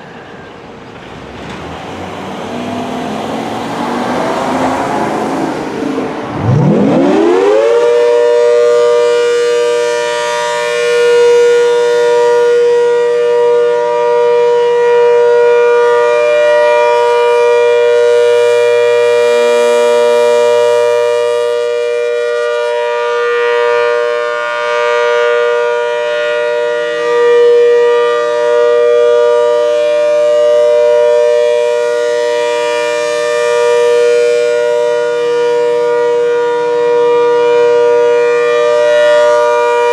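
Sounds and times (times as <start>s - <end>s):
civil defense siren wailing: 0.0s - 39.9s.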